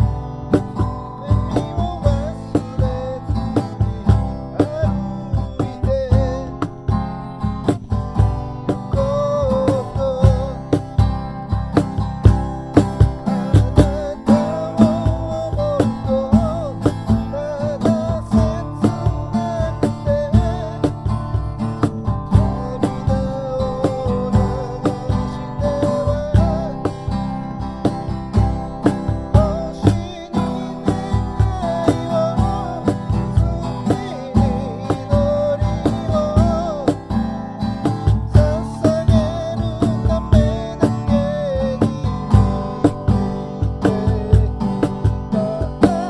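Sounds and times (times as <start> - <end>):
acoustic guitar strumming: 0.0 - 46.0.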